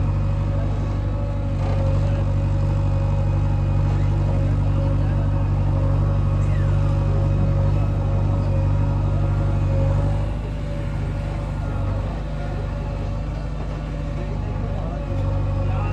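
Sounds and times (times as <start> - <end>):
heavy diesel engine running: 0.0 - 15.9.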